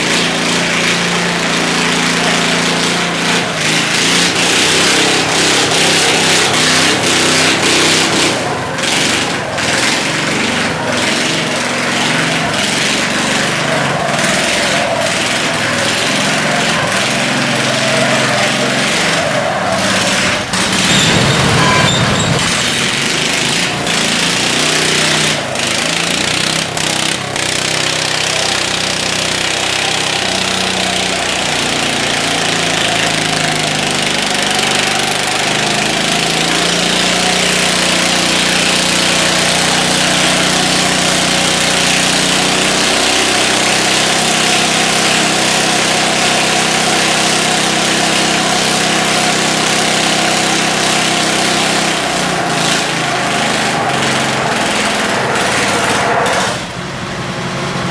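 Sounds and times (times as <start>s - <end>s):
small engines straining: 0.0s - 57.9s
tyres spinning on concrete: 0.0s - 57.9s.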